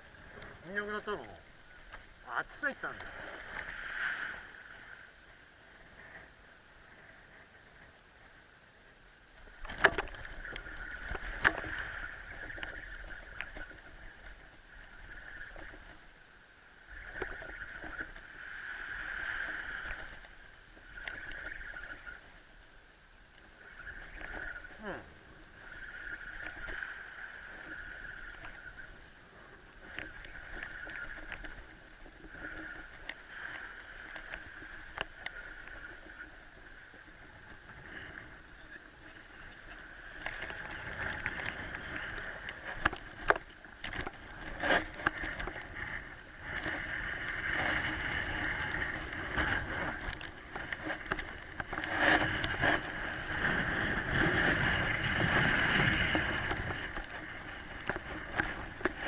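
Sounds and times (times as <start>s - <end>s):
water sloshing and rushing: 0.0s - 7.9s, 9.2s - 59.0s.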